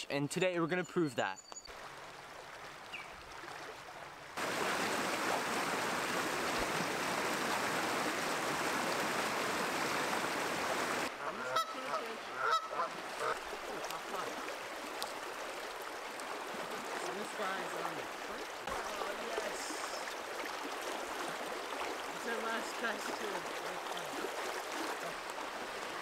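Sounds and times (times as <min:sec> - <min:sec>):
stream water rushing: 0:01.7 - 0:26.0.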